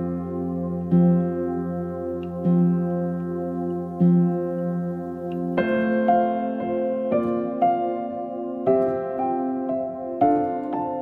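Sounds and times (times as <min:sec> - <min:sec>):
slow keyboard chords: 0:00.0 - 0:11.0.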